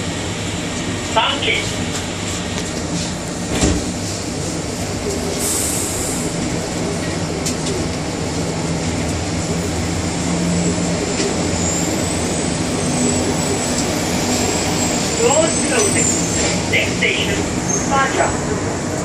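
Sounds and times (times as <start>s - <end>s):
people-mover car hum: 0.0s - 19.0s.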